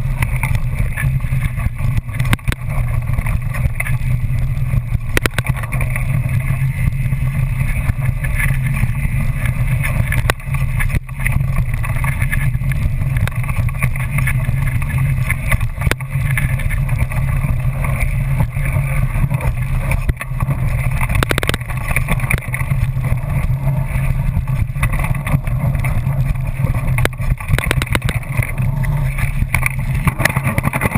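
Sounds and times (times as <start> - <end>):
bike knocks and rattles: 0.0 - 30.9
bike tyres rolling on dirt: 0.0 - 30.9.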